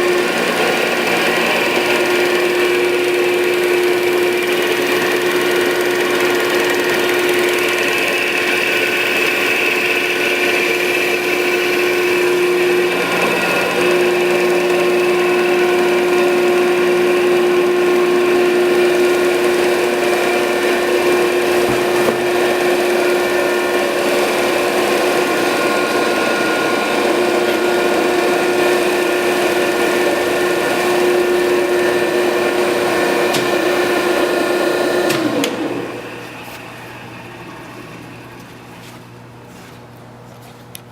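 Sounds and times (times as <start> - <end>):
grinder machine hum and whine: 0.0 - 40.9.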